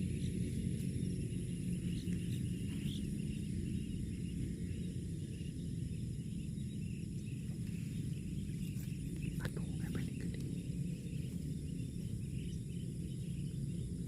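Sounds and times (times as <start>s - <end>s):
faint chirps: 0.0s - 14.0s
insects trilling: 0.0s - 14.0s
low rumble: 0.0s - 14.0s.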